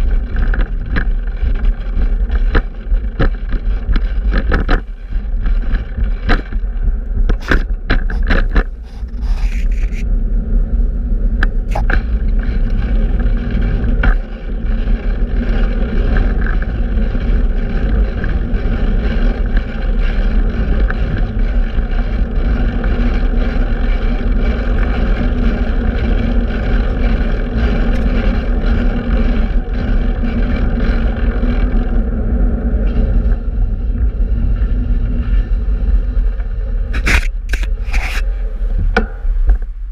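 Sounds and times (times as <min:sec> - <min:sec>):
bicycle road rumble: 0:00.0 - 0:39.9
wind on microphone: 0:00.0 - 0:39.9.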